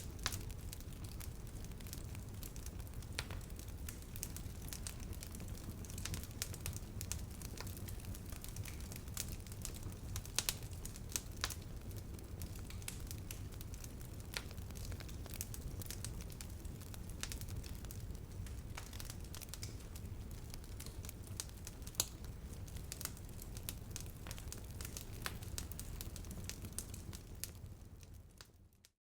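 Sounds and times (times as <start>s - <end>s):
campfire crackling: 0.0s - 28.7s.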